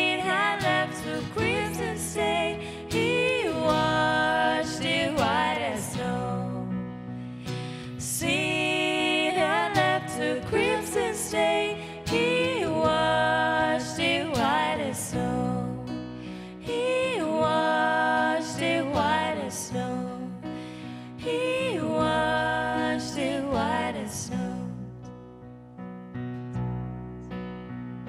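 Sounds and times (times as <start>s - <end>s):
person singing lead vocal: 0.0s - 25.0s.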